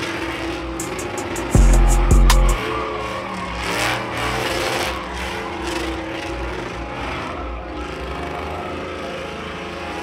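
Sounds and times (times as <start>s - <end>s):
pickup engine revving: 0.0s - 9.9s.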